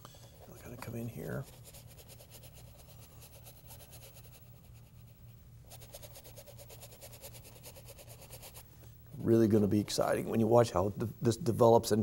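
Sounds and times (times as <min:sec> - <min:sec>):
faint low hum: 0:00.0 - 0:12.0
paintbrush scrubbing on canvas: 0:00.6 - 0:10.4.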